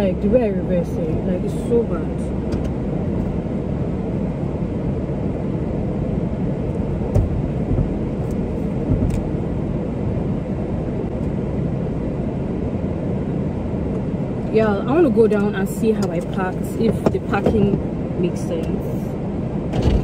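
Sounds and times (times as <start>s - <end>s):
car engine idling: 0.0s - 18.9s
air conditioning blowing: 0.0s - 20.0s.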